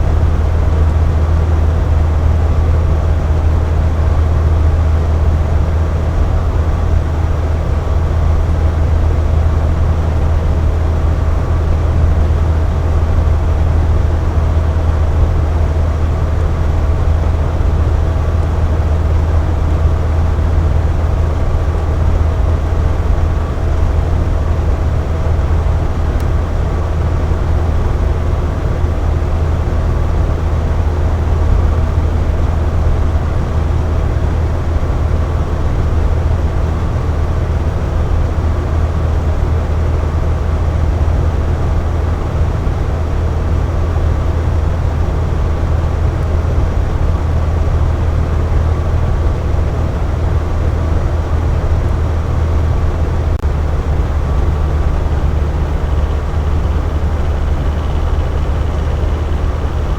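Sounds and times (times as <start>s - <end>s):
box fan running: 0.0s - 59.9s.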